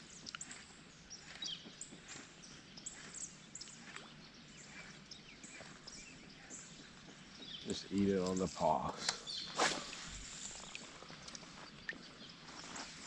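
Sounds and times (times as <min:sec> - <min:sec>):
outdoor background noise: 0:00.0 - 0:13.0
faint bird chirps: 0:00.1 - 0:13.0.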